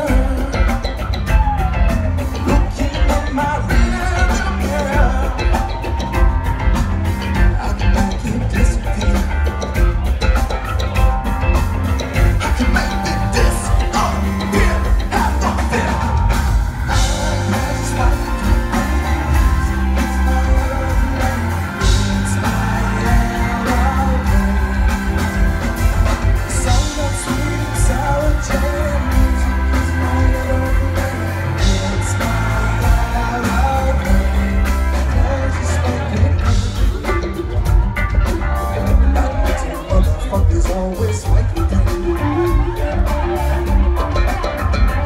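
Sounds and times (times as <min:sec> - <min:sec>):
lead singer: 0:00.0 - 0:45.0
live rock band playing: 0:00.0 - 0:45.0
strong bass: 0:00.0 - 0:45.0.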